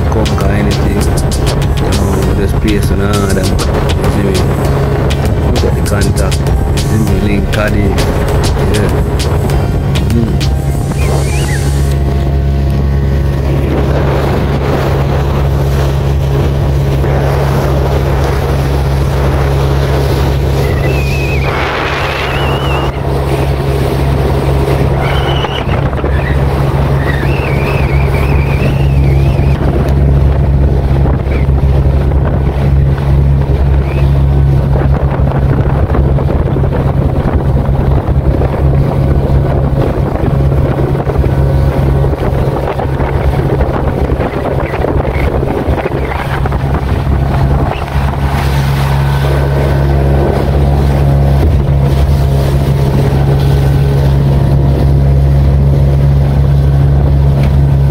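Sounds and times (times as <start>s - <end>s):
outboard motor droning: 0.0s - 57.9s
wind noise on microphone: 0.0s - 57.9s.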